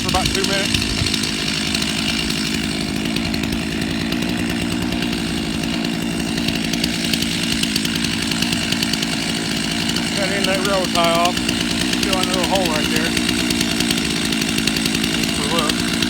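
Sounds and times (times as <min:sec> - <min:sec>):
chainsaw idling: 0:00.0 - 0:16.0.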